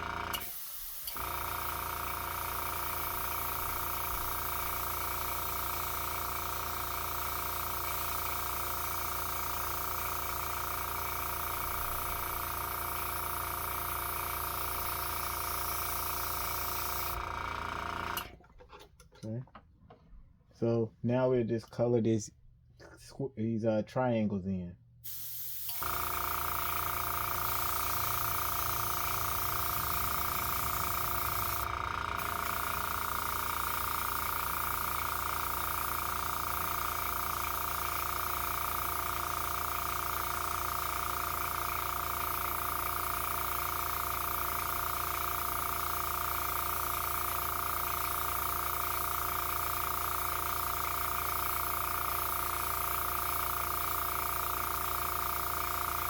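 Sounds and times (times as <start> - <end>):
air compressor motor hum: 0.0 - 18.4, 25.0 - 56.0
airbrush spraying hiss: 0.4 - 17.2, 25.0 - 56.0.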